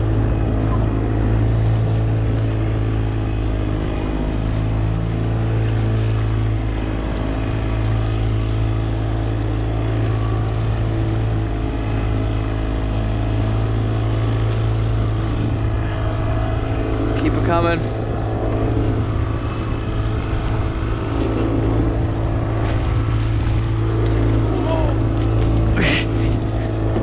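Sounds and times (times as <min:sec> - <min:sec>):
boat engine low drone: 0:00.0 - 0:27.0.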